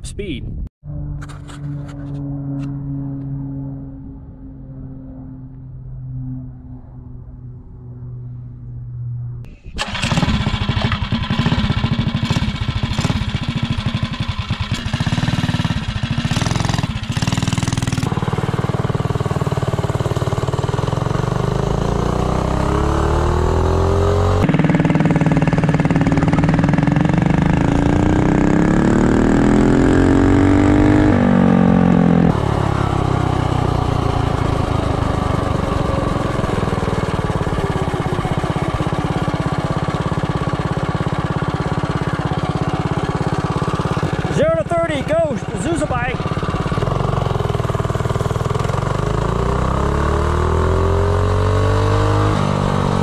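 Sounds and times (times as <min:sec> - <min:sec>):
minibike engine accelerating: 0:01.2 - 0:53.0.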